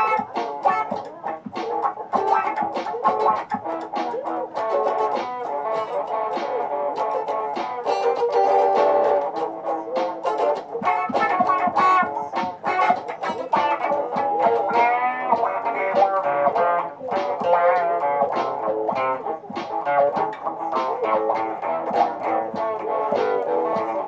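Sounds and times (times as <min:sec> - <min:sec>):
looped electric guitar music: 0:00.0 - 0:24.0.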